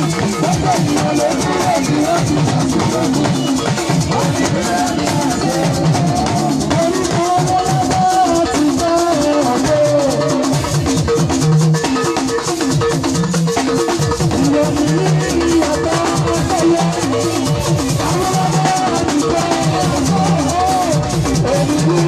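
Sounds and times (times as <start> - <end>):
melodic lead line: 0.0 - 11.2, 13.1 - 22.0
drum kit: 0.0 - 22.0.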